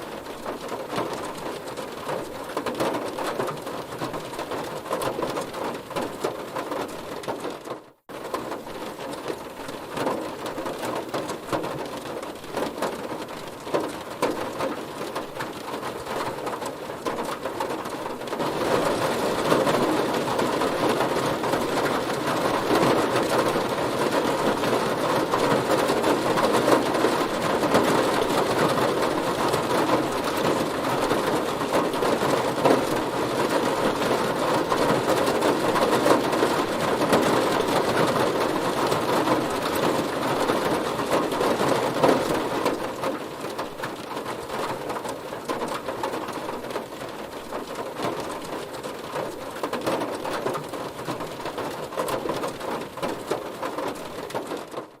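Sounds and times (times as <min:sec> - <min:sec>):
heavy rain drumming on car: 0:00.0 - 0:55.0.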